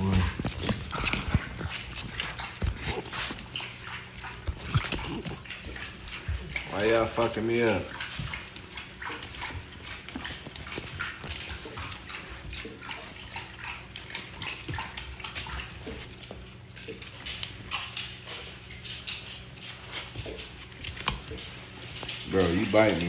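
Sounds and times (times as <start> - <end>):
puppy scuffling and play-biting: 0.0 - 23.0.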